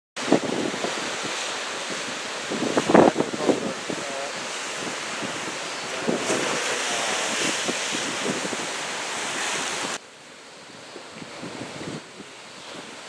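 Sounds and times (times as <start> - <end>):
wind buffeting microphone: 0.2 - 10.0, 10.6 - 13.0
ocean surf breaking: 0.2 - 13.0.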